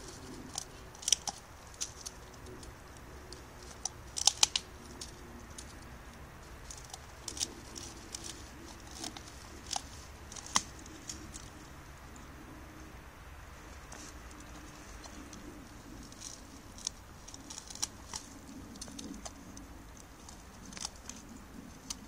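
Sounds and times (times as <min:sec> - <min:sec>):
wood cracking and snapping: 0:00.0 - 0:05.9, 0:06.5 - 0:11.6, 0:13.8 - 0:22.0
dog gnawing wood: 0:00.0 - 0:12.6, 0:13.4 - 0:22.0.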